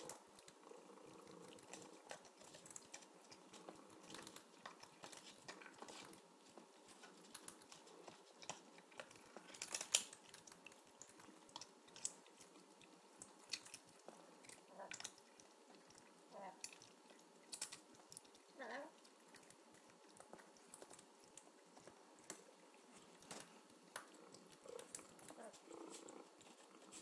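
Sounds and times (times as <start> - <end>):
cat crunching chips: 0.0 - 27.0.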